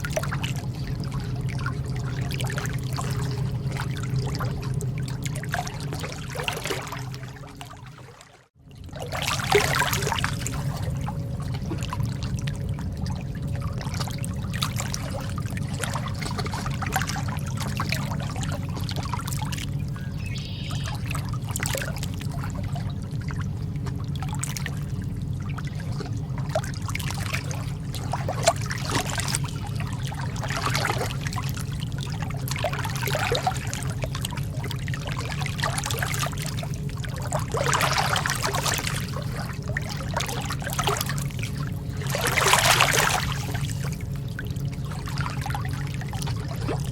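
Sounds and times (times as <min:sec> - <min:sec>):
steady low rumble: 0:00.0 - 0:46.9
water lapping and splashing: 0:00.0 - 0:46.9.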